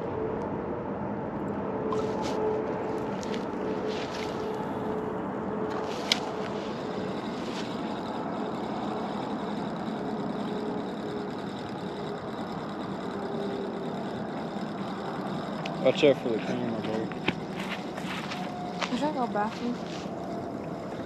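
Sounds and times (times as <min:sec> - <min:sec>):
faint constant tone: 0:00.0 - 0:21.0
machine hum: 0:00.0 - 0:21.0.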